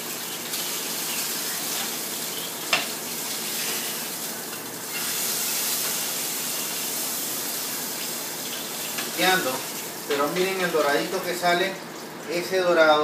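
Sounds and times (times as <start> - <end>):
fish sizzling in a frying pan: 0.0 - 12.2.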